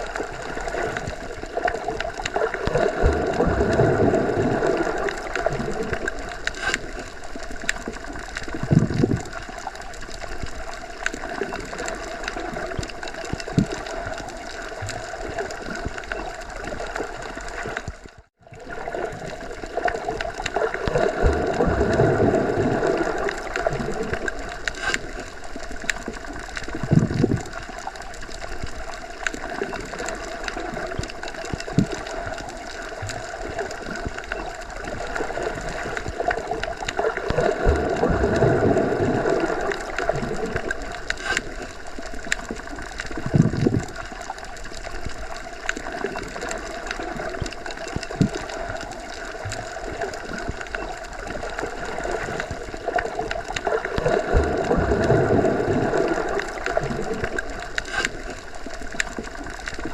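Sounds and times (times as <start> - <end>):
muffled underwater water rush: 0.0 - 59.9
water gurgles: 0.0 - 59.9.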